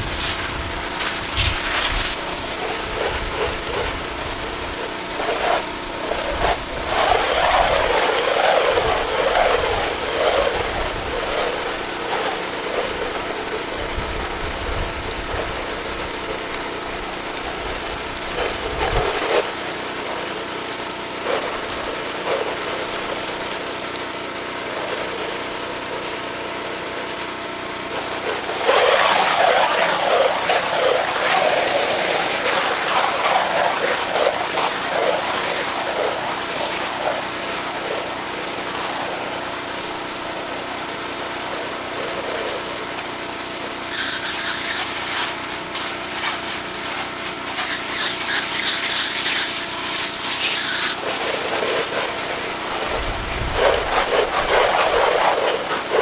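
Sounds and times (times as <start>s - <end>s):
pressure washer engine running: 0.0s - 56.0s
water spray hissing on siding: 0.0s - 56.0s.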